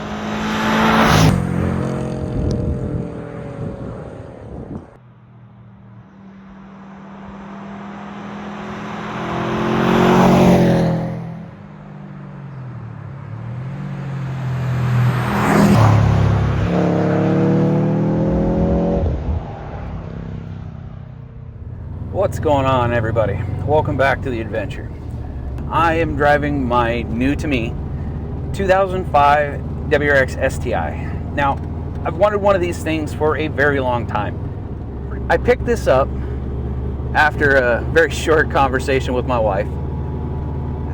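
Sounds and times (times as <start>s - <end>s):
car engine driving by: 0.0s - 40.9s.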